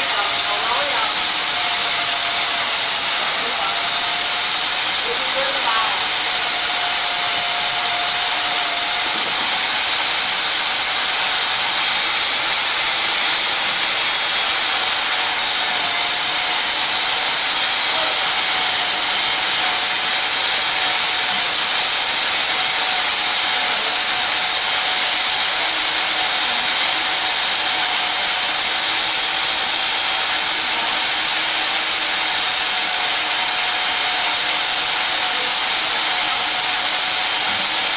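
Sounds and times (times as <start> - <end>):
core drill cutting concrete: 0.0 - 37.9.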